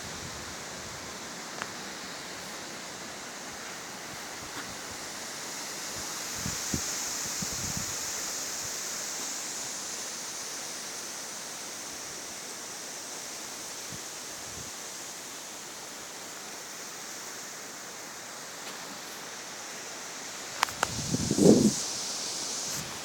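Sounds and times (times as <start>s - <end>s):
wind hissing: 0.0s - 23.0s.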